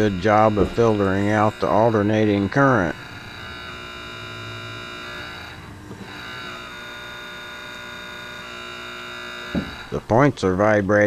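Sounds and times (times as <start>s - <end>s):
voltage regulator contacts buzzing: 0.0s - 11.0s.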